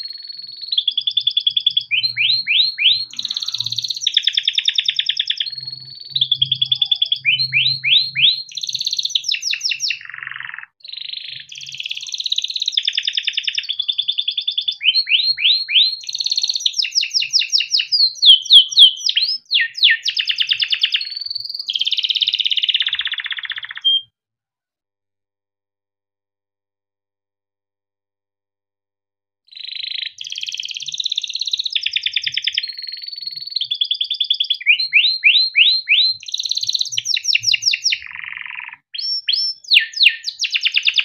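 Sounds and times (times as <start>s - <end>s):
canary singing trills: 0.0s - 24.1s, 29.5s - 41.0s.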